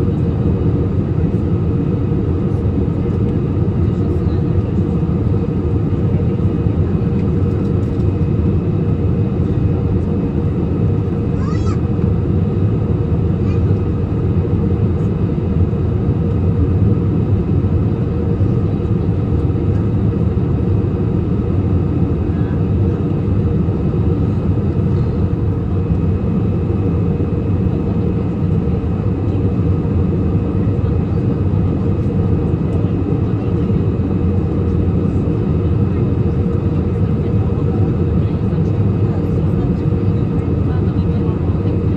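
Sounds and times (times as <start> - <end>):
airliner cabin engine drone: 0.0 - 41.9.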